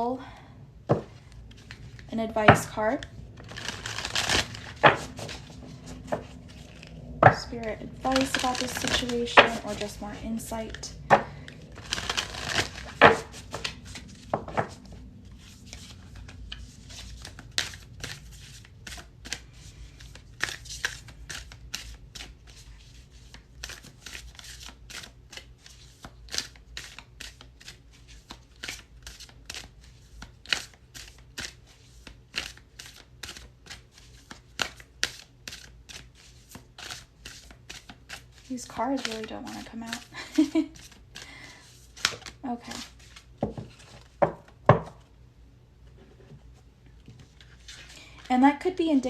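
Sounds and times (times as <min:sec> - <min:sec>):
cards being shuffled: 0:00.9 - 0:45.0, 0:46.2 - 0:48.3.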